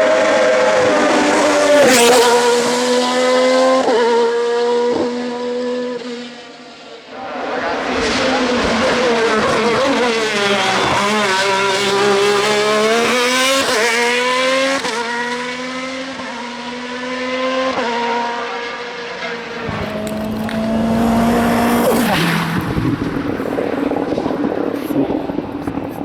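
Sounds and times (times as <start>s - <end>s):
race car engine accelerating: 0.0s - 6.4s, 7.5s - 24.6s.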